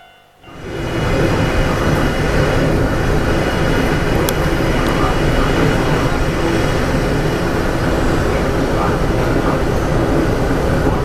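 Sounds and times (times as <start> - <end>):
train diesel engines rumbling: 0.0 - 11.0.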